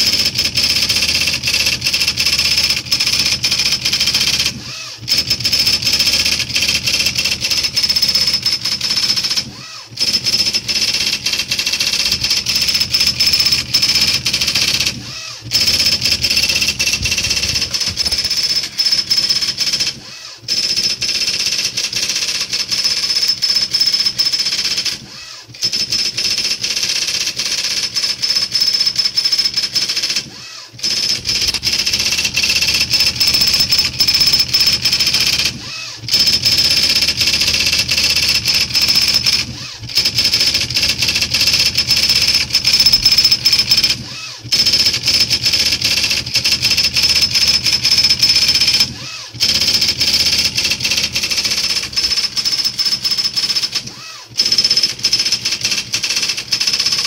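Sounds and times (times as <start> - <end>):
typewriter printing rattle: 0.0 - 57.0.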